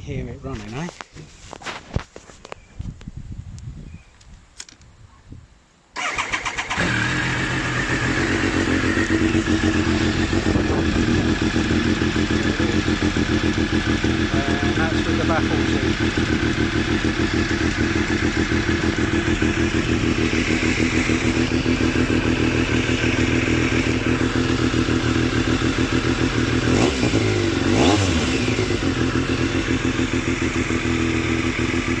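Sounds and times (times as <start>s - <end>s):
motorcycle engine idling: 6.0s - 32.0s.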